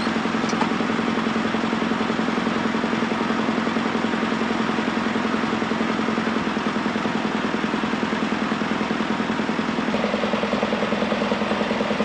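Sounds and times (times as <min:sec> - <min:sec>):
diesel tractor engines idling: 0:00.0 - 0:12.0.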